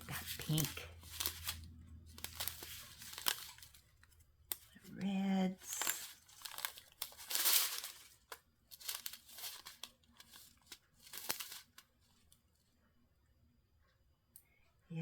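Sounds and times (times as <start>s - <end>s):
plastic bags crinkling: 0.0s - 12.3s.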